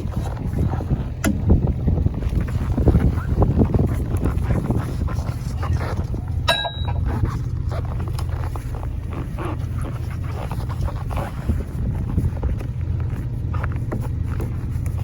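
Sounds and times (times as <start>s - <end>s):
diesel truck engine idling: 0.0s - 15.0s
crunching and clicking: 2.2s - 15.0s
rapid metallic rattle: 2.6s - 15.0s.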